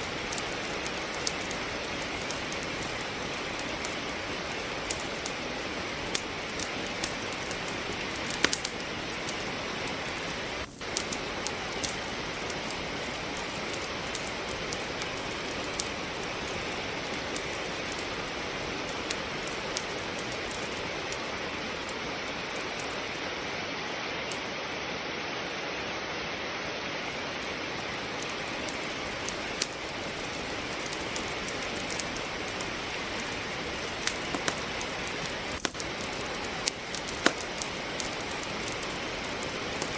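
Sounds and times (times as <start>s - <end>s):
firewood crackling: 0.0s - 39.9s
steady rain hiss: 0.0s - 39.9s.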